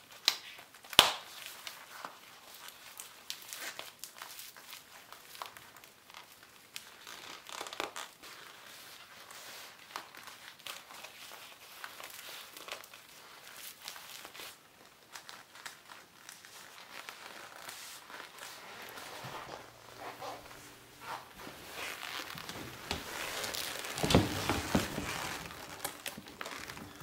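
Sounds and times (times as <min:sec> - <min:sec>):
leather rustling and crinkling: 0:01.4 - 0:27.0.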